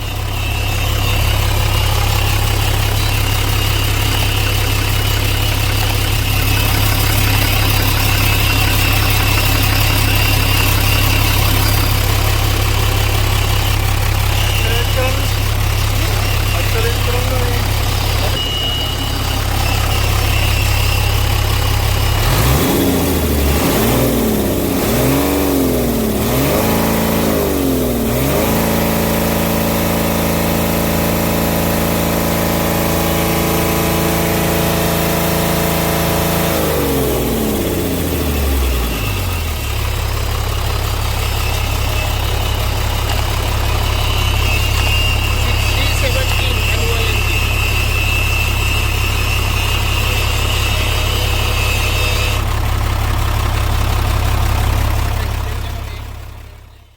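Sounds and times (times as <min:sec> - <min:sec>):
diesel truck engine revving: 0:00.0 - 0:56.9.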